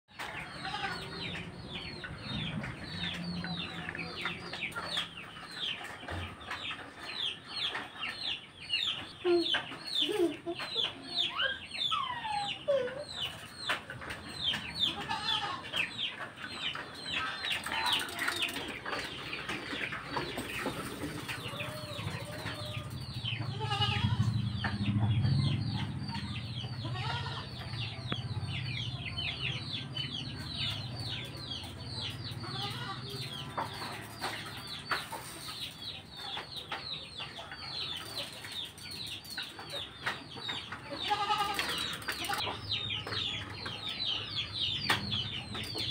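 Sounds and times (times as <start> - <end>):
small birds chirping: 0.1 - 45.9.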